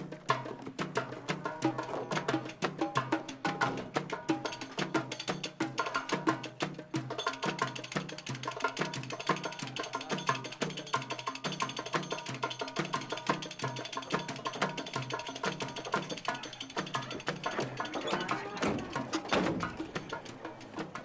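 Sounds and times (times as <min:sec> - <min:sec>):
hand drum rhythm: 0:00.0 - 0:21.0.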